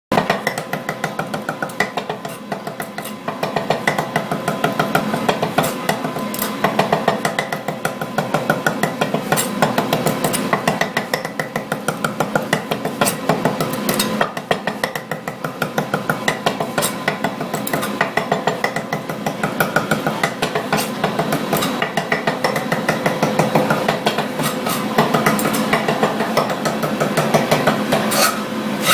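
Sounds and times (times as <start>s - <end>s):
knife chopping on cutting board: 0.1s - 28.9s
steady background hum: 0.1s - 28.9s.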